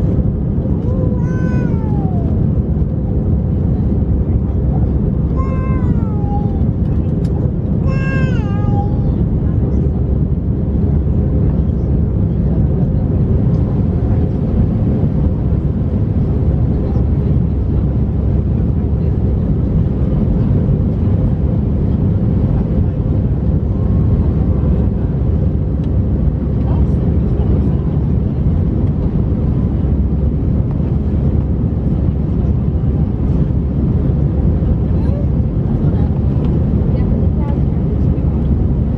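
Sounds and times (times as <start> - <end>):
jet engines and airflow rumble: 0.0 - 38.9.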